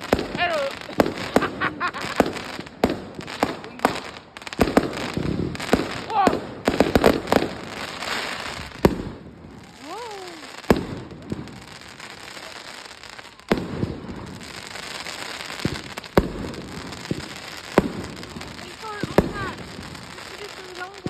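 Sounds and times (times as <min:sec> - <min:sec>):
fireworks bangs: 0:00.0 - 0:21.0
fireworks crackling and rumbling: 0:00.0 - 0:21.0.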